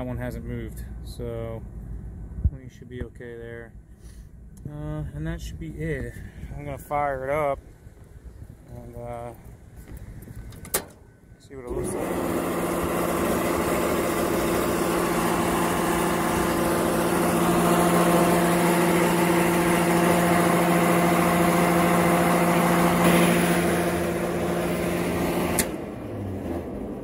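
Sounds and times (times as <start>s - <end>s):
blower fan humming and whirring: 4.4s - 27.0s.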